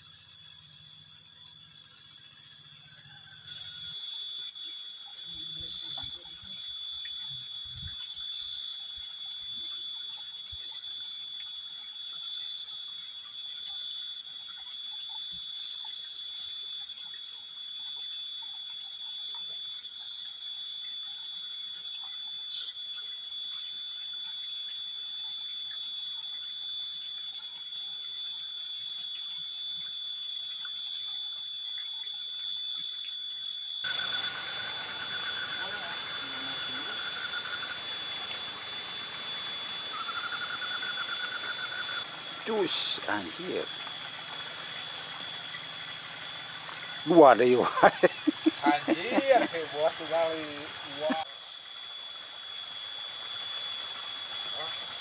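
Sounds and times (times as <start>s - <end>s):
cicadas singing: 0.0s - 55.0s.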